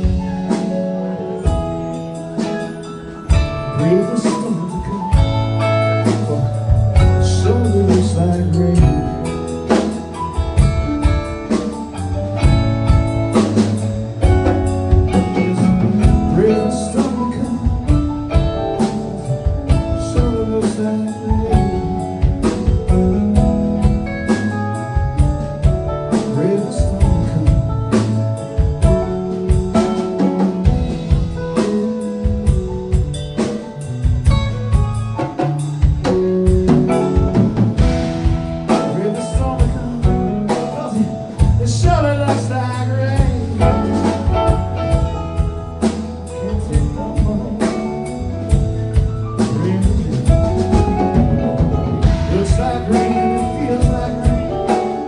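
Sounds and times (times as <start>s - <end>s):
bending guitar notes: 0.0s - 55.0s
rock band playing: 0.0s - 55.0s.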